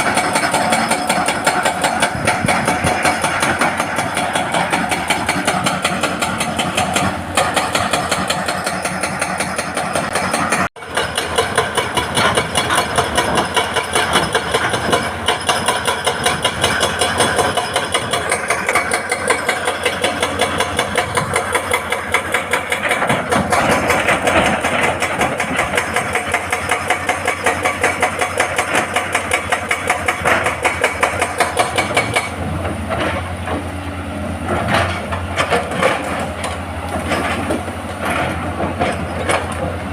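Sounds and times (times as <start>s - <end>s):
hydraulic breaker hammering rock: 0.0s - 33.7s
diesel engine running: 0.0s - 39.9s.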